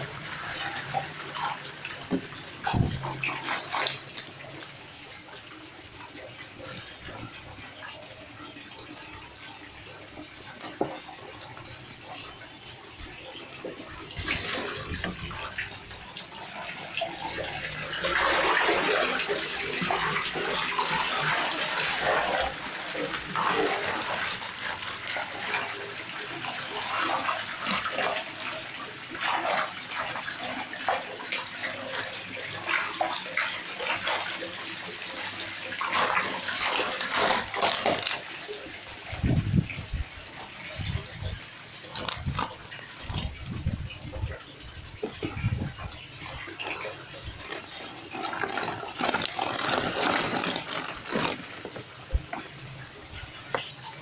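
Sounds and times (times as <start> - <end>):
fish splashing in a net: 0.0 - 7.7, 8.7 - 54.0.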